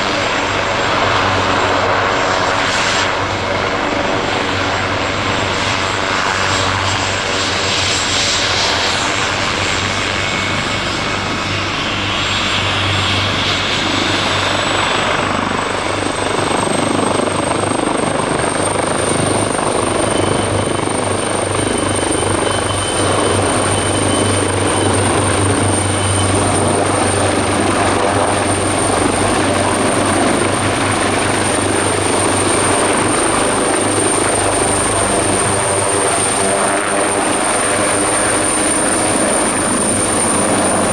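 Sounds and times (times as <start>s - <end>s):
helicopter rotor throb: 0.0s - 40.9s
high turbine whine: 0.0s - 40.9s.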